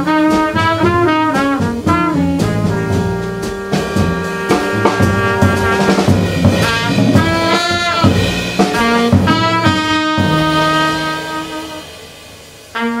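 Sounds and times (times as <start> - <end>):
double bass: 0.0 - 11.8
alto saxophone: 0.0 - 12.1, 12.7 - 13.0
drum kit with cymbals: 0.0 - 13.0
trumpet: 0.0 - 13.0.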